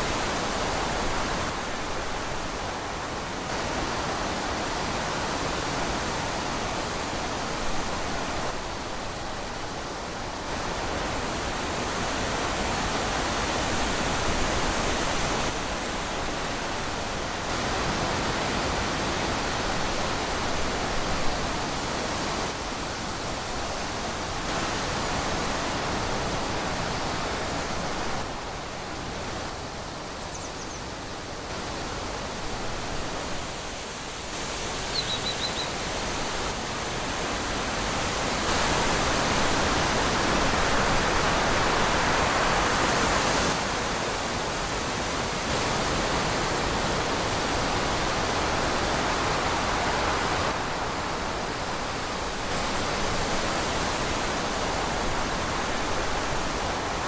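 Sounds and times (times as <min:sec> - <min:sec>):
wind rushing through trees: 0:00.0 - 0:57.0.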